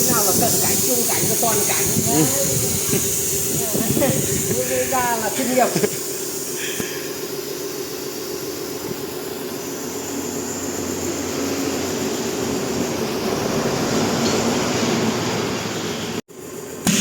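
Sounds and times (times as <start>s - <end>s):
mechanical drone with hiss: 0.0s - 17.0s.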